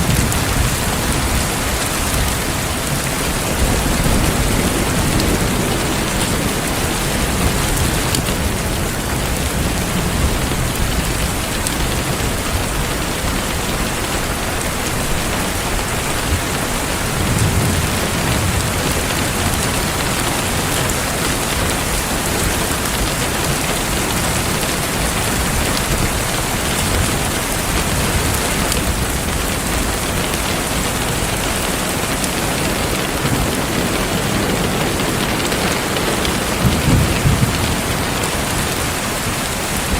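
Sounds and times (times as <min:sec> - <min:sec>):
heavy rain falling: 0:00.0 - 0:39.9
low thunder rumbling: 0:00.0 - 0:39.9.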